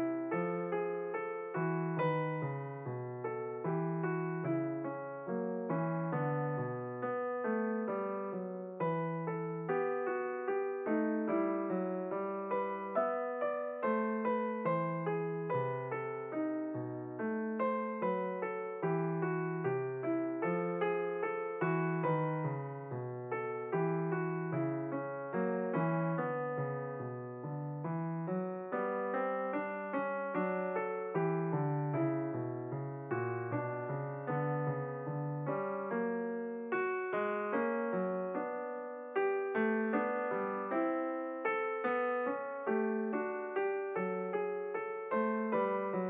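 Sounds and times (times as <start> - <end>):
background piano music: 0.0 - 46.0.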